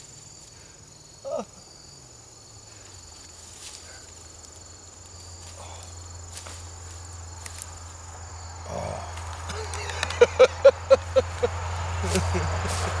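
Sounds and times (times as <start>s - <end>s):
high insect song: 0.0s - 13.0s.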